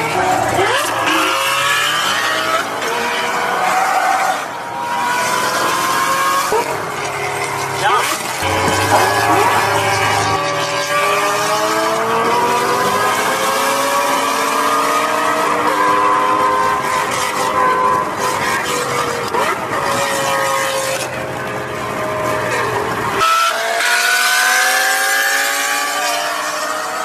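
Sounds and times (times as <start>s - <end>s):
engine revving high: 0.0s - 27.0s.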